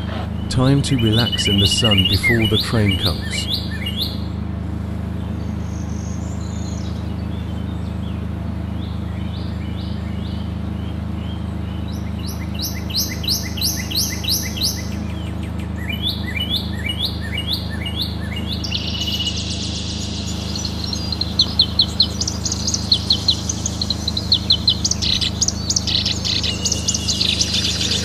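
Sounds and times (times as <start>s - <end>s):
songbird chirping: 0.0s - 4.2s, 5.2s - 28.0s
steady low hum: 0.0s - 28.0s.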